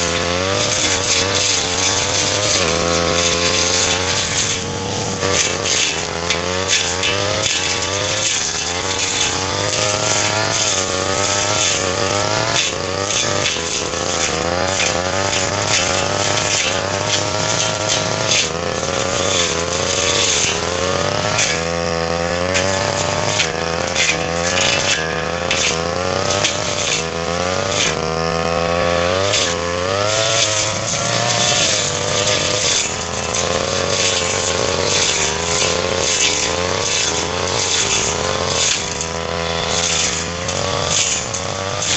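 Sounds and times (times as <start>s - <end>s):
blade cutting vegetation: 0.0s - 41.9s
brush cutter engine running: 0.0s - 41.9s.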